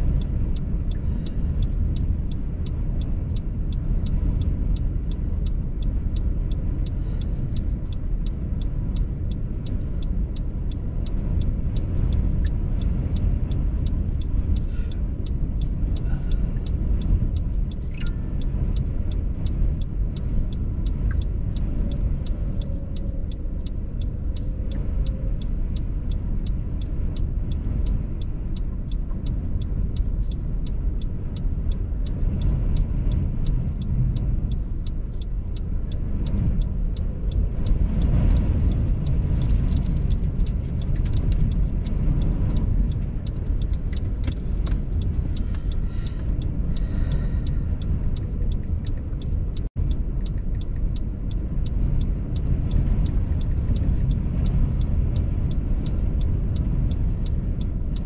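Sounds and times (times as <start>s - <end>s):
light regular ticking: 0.0s - 58.0s
wind buffeting a car: 0.0s - 58.0s.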